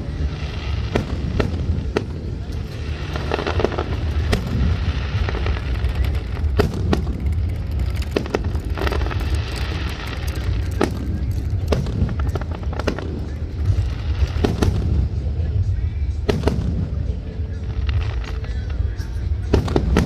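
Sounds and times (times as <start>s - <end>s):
fireworks bangs and pops: 0.0s - 20.0s
fireworks crackling: 0.0s - 20.0s
low rumble: 0.0s - 20.0s.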